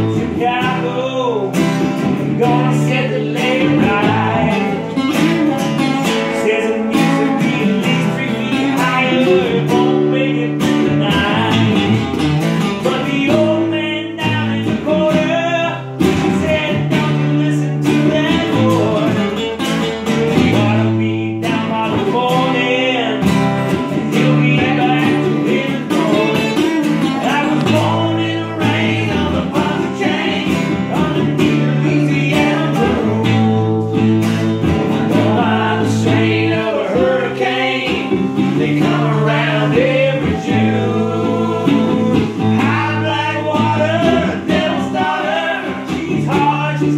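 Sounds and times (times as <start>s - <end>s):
acoustic guitars playing country: 0.0s - 46.9s.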